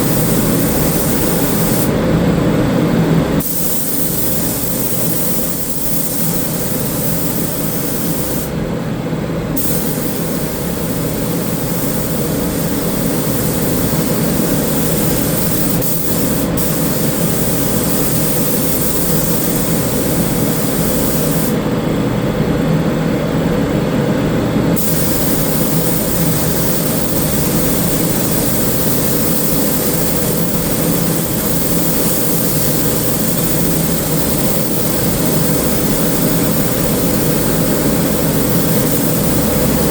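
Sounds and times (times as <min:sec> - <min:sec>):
spray gun hissing: 0:00.0 - 0:02.0, 0:03.4 - 0:08.6, 0:09.6 - 0:21.6, 0:24.8 - 0:39.9.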